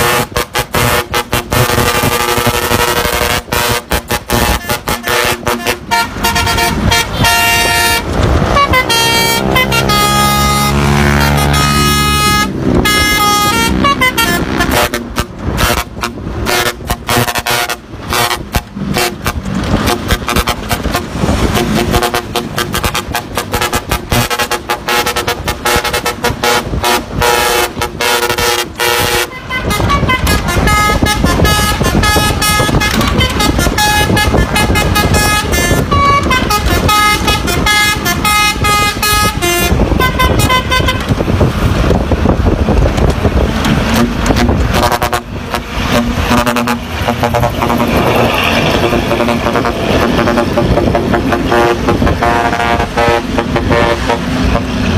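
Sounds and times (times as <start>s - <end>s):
musical air horn playing a tune: 0.0s - 41.2s, 43.8s - 54.9s
road noise: 0.0s - 54.9s
truck engine: 0.0s - 54.9s.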